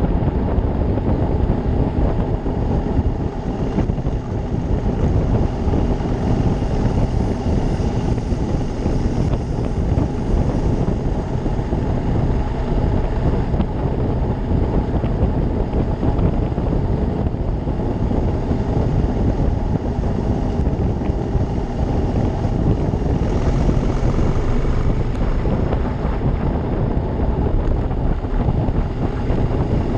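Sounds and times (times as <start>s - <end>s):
motorcycle engine running: 0.0s - 29.9s
wind on microphone: 0.0s - 29.9s.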